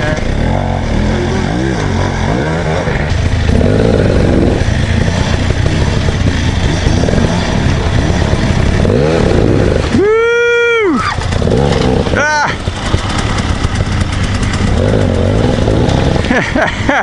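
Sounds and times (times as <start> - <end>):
dirt bike engine revving: 0.0 - 17.0
steady rushing noise: 0.0 - 17.0.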